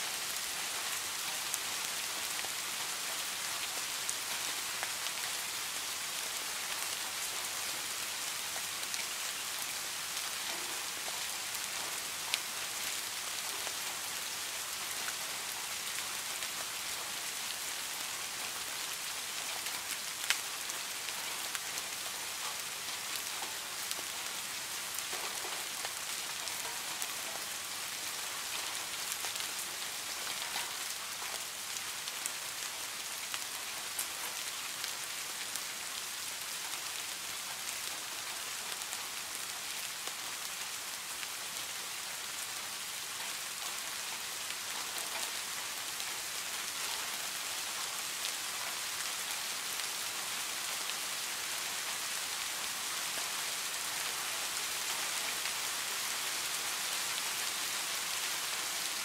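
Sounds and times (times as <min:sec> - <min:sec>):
rain falling on pine branches: 0:00.0 - 0:59.0.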